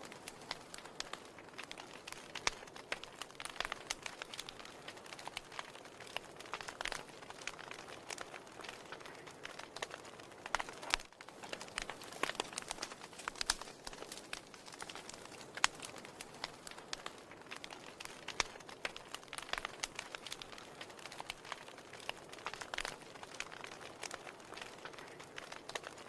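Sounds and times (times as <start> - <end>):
logs crackling and popping: 0.0 - 26.0.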